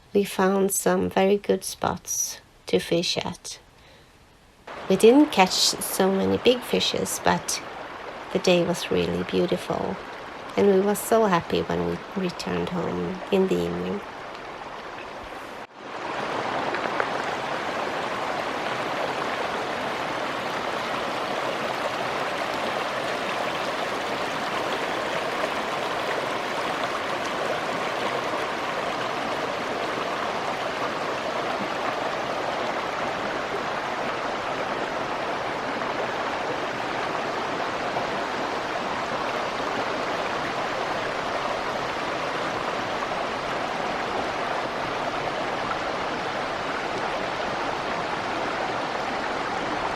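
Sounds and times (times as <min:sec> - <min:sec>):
stream running over stones: 0:04.7 - 0:49.9.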